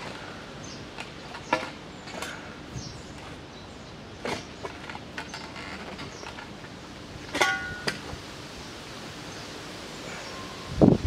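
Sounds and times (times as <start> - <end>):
birds chirping faintly: 0.0 - 10.9.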